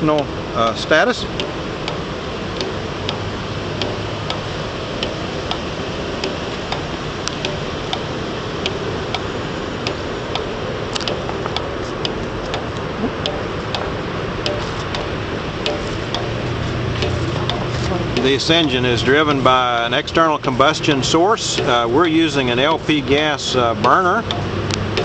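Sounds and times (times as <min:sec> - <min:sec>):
hot air engine ticking: 0:00.0 - 0:25.0.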